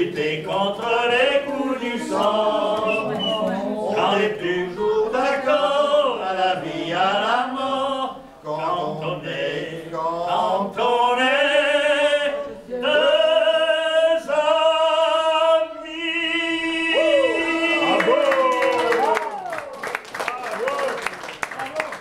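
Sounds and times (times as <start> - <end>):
two men singing unaccompanied: 0.0 - 18.1.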